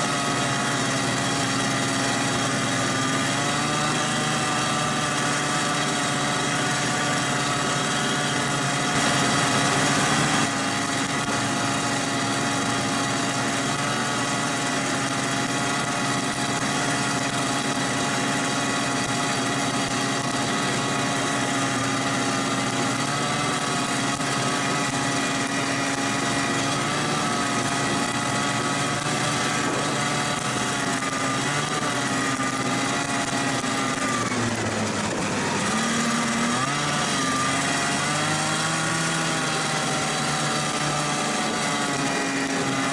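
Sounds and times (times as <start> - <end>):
snowmobile engine running: 0.0 - 42.9.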